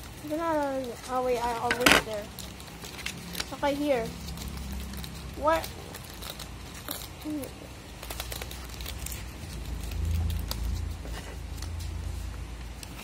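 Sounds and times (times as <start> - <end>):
paper clicks and rustles: 0.0 - 13.0.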